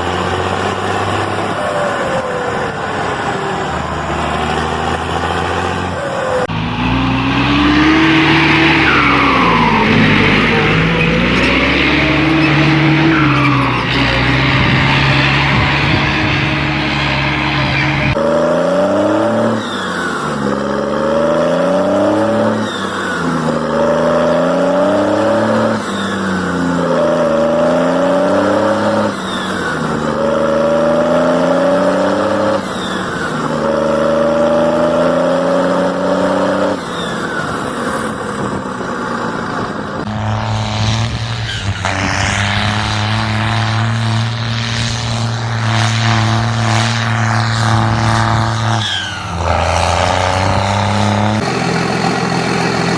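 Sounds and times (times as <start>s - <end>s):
diesel tractor engine revving: 0.0s - 52.9s.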